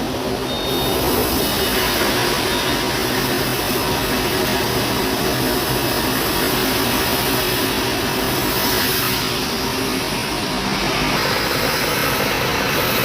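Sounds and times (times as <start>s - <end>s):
machinery hiss: 0.0s - 13.0s.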